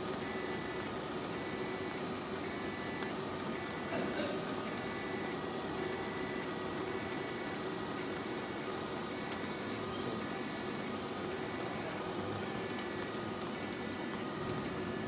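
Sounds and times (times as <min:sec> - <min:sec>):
welding machine hum and hiss: 0:00.0 - 0:15.0.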